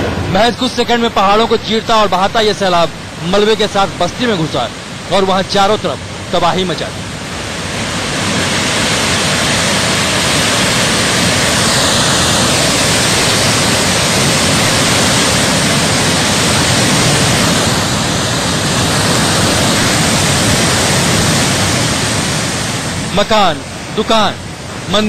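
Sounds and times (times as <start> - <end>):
floodwater and debris rushing: 0.0 - 25.0.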